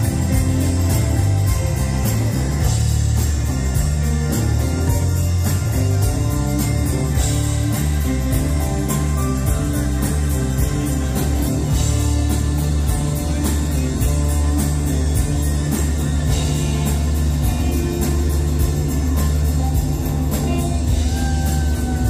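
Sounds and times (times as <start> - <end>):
electric guitar: 0.0 - 22.0
steady drum beat: 0.0 - 22.0.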